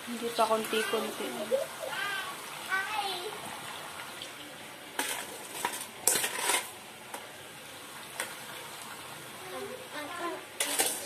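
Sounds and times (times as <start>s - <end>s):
frying sizzle in oil: 0.0s - 11.0s.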